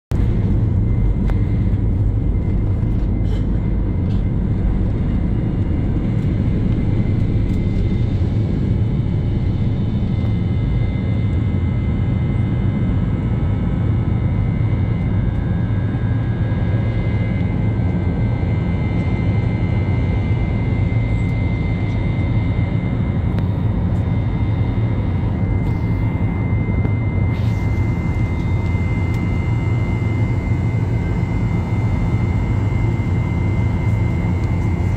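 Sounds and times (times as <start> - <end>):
jet engines deep rumble: 0.1 - 34.9
thin high engine whine: 0.1 - 34.9.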